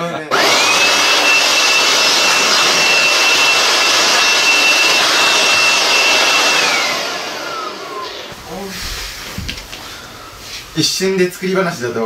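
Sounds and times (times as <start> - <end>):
electric blower whining: 0.3 - 10.4.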